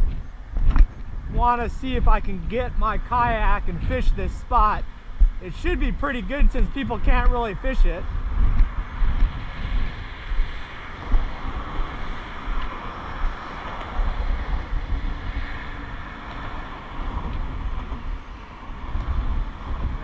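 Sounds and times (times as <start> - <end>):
traffic rushing over bridge: 0.0 - 20.0
wind buffeting microphone: 0.0 - 20.0.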